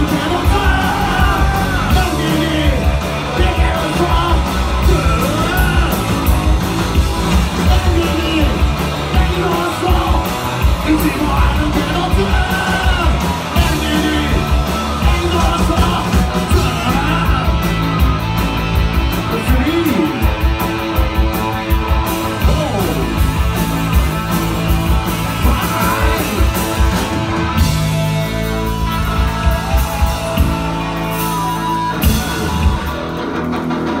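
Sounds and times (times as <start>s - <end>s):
singing and yelled vocals: 0.0s - 18.1s, 19.2s - 20.4s, 22.3s - 23.9s, 24.9s - 33.1s
drums: 0.0s - 34.0s
electric guitars: 0.0s - 34.0s.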